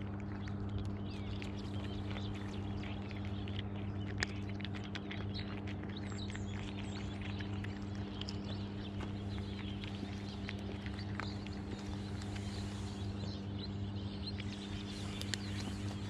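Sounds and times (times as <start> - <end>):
cats crunching dry kibble: 0.0 - 16.0
steady low hum: 0.0 - 16.0.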